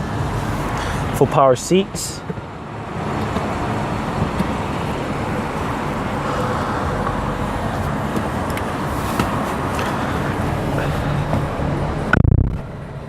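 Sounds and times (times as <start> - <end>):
vehicle rumble with hiss: 0.0 - 13.0.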